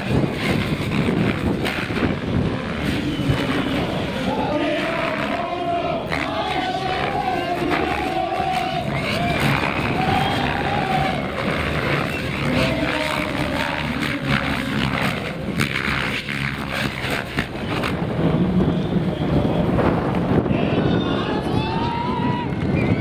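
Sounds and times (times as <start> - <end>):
model helicopter rotor whirring: 0.0 - 20.2.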